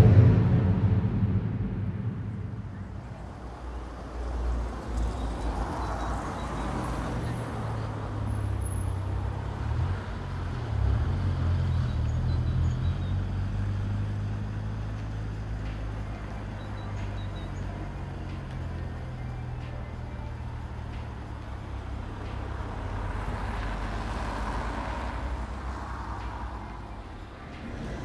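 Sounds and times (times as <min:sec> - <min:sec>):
traffic rumble: 0:00.0 - 0:28.0
vehicles passing: 0:00.0 - 0:28.0.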